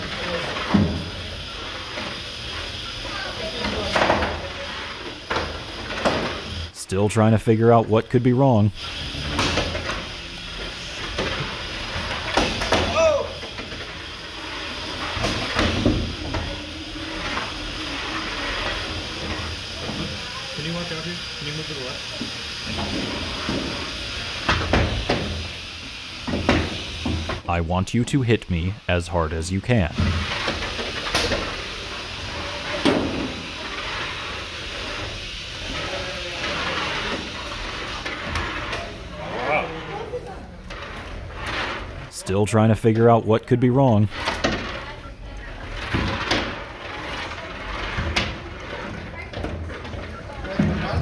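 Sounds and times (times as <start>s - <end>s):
robots scraping across arena floor: 0.0s - 24.5s, 26.7s - 51.0s
steady background noise: 0.0s - 51.0s
steady noisy hiss: 0.0s - 51.0s.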